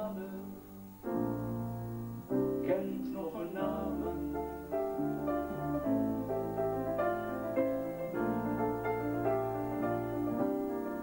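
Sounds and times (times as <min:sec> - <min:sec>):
slow piano playing: 0:00.0 - 0:11.0.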